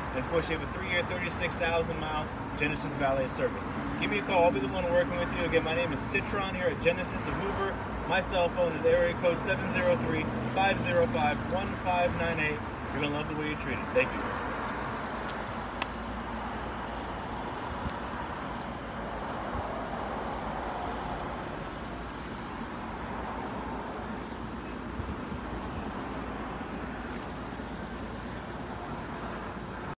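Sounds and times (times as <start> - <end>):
traffic hum: 0.0 - 30.0.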